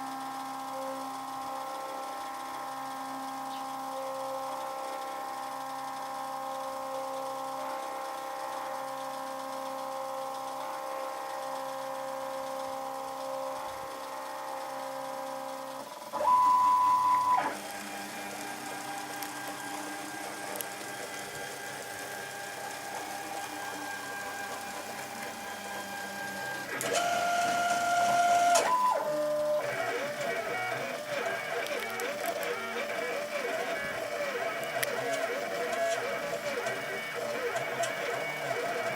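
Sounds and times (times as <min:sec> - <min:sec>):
cnc machine motors whining: 0:00.0 - 0:38.9.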